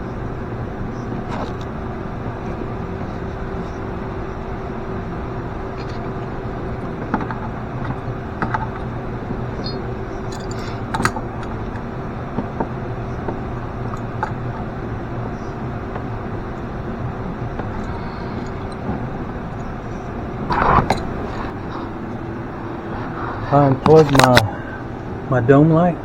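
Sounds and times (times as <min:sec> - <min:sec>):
steady mechanical hum: 0:00.0 - 0:26.0
handling noise: 0:01.0 - 0:25.2.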